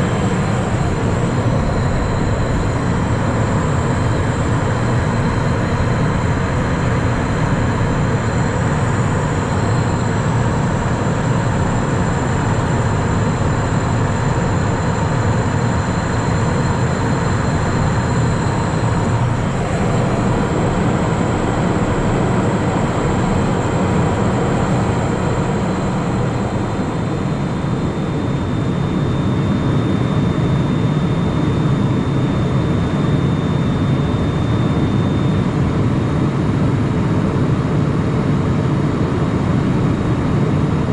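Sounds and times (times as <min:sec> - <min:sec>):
high turbofan whine: 0:00.0 - 0:40.9
jet engine and airflow rush: 0:00.0 - 0:40.9.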